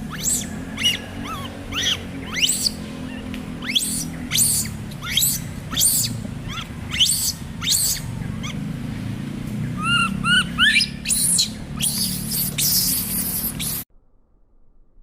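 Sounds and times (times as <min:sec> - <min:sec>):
monkey chirps: 0:00.0 - 0:08.7, 0:09.7 - 0:13.8
monkey squealing: 0:00.0 - 0:08.7, 0:09.8 - 0:13.8.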